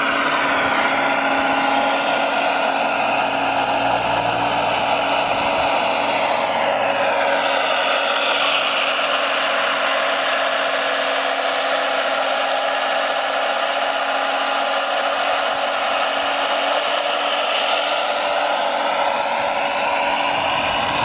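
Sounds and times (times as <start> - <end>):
electric motor and gearing whir: 0.0 - 21.0.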